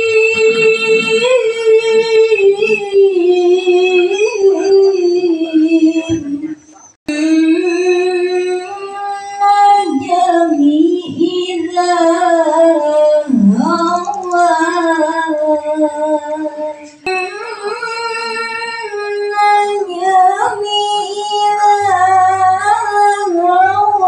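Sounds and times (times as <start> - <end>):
woman singing into microphone: 0.0 - 24.0.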